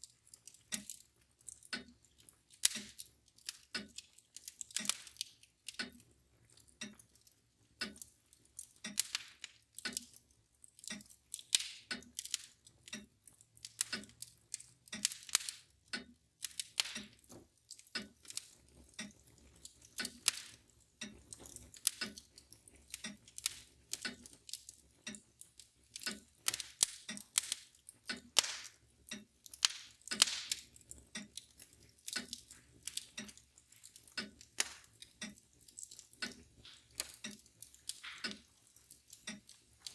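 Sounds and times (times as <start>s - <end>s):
mantel clock ticking: 0.0s - 39.9s
wood fire crackling and popping: 0.0s - 39.9s.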